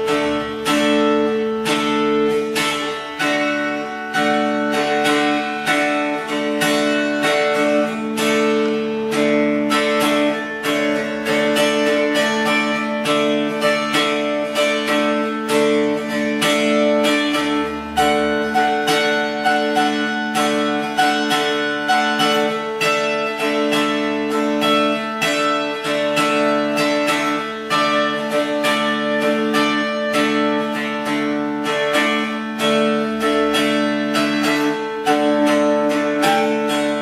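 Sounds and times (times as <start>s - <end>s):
guitar plucked notes: 0.0s - 37.0s.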